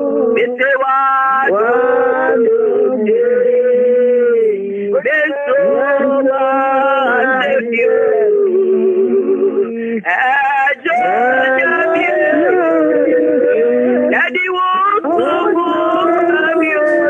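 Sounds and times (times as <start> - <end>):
man singing over telephone line: 0.0 - 17.0.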